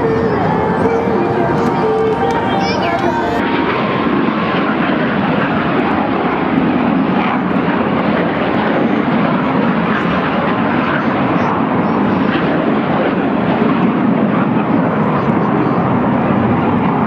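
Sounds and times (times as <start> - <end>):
aircraft engines running: 0.0 - 17.0.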